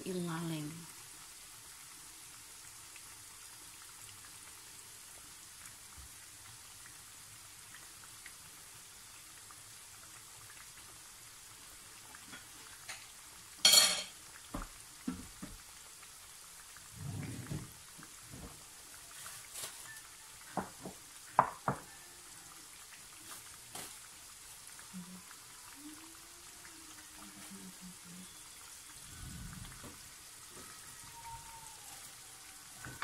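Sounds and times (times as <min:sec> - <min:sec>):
chicken deep-frying in oil: 0:00.0 - 0:33.0.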